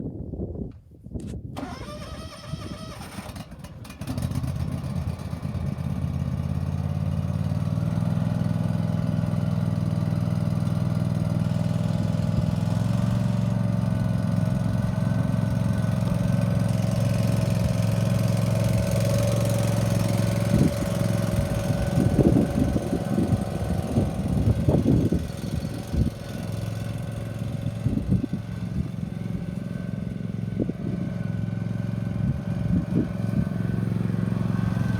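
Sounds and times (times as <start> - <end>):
mower engine starting and running: 1.2 - 34.9.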